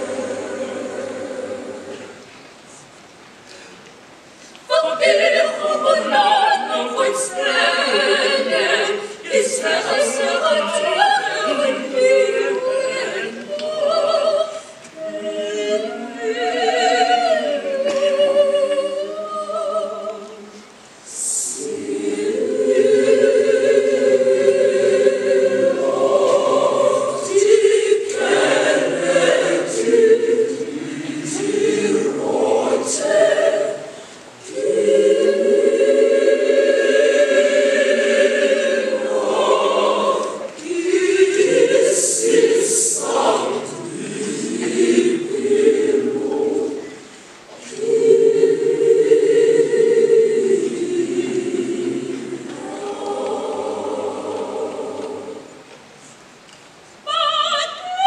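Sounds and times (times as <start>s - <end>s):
children's choir singing: 0.0s - 2.4s, 4.7s - 56.2s.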